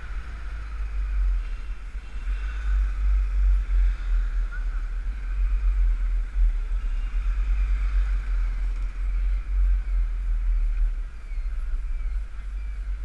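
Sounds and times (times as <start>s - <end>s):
motorcycle engine and road noise: 0.0s - 13.0s
wind buffeting microphone: 0.0s - 13.0s.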